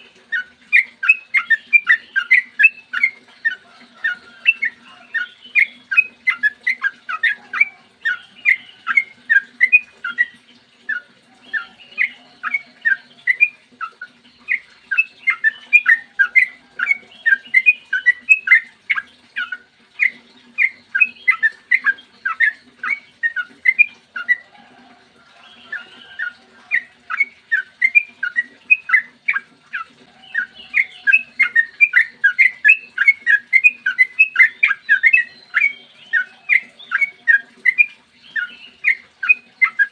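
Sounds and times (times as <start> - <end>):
bulbul singing rapid chirps: 0.0 - 24.5, 25.4 - 39.9.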